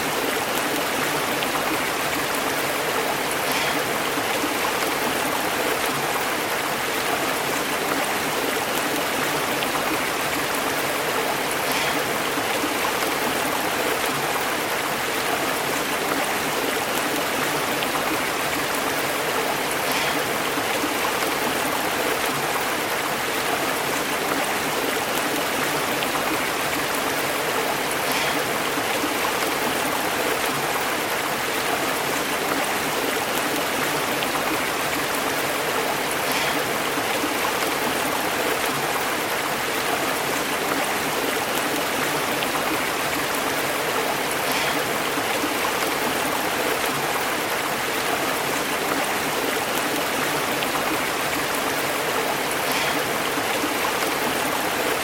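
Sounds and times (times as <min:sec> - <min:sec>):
stream burbling over rocks: 0:00.0 - 0:55.0.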